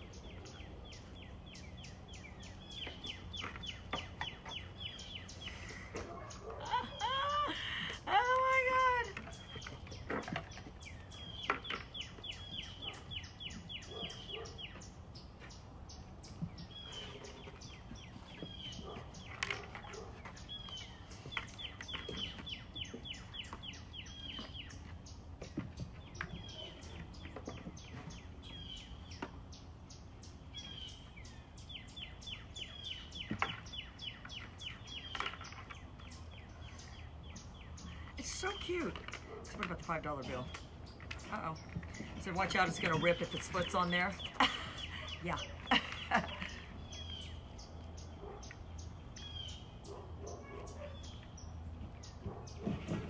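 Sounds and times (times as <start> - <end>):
small bird chirping: 0.0 - 7.2, 8.4 - 53.0.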